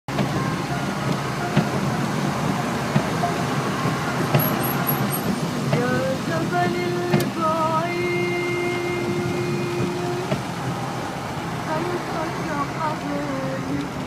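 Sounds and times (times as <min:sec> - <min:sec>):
traffic on wet streets: 0:00.0 - 0:14.0
steady rain: 0:00.1 - 0:14.0.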